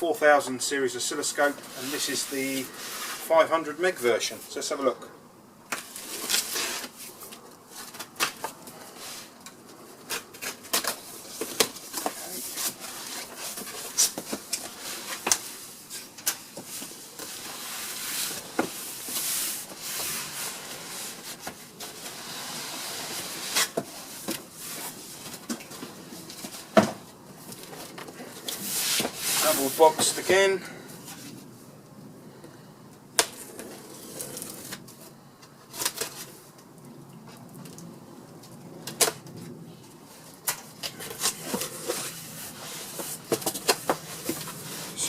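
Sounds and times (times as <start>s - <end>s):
cardboard and packing rustling: 1.2s - 3.5s, 5.7s - 31.6s, 33.2s - 36.6s, 38.8s - 45.0s.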